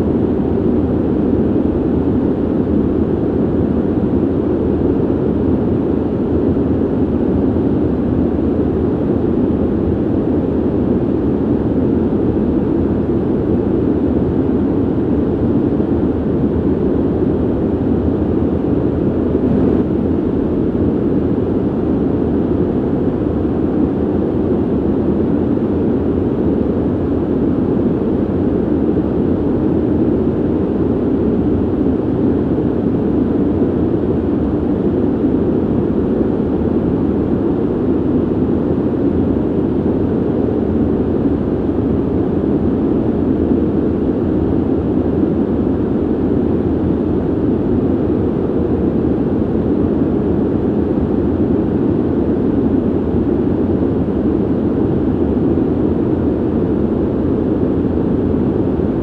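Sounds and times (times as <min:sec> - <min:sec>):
ventilation air rushing: 0:00.0 - 0:59.0.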